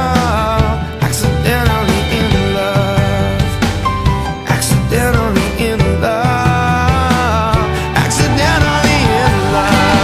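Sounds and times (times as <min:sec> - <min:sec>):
rock song with guitar and drums: 0:00.0 - 0:10.0.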